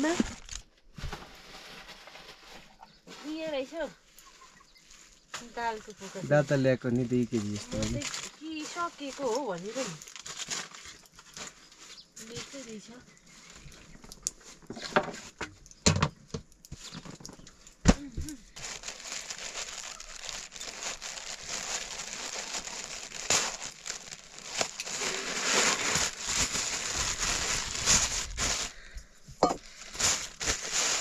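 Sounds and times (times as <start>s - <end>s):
plastic sacks crinkling and rustling: 0.0s - 15.7s, 16.7s - 31.0s.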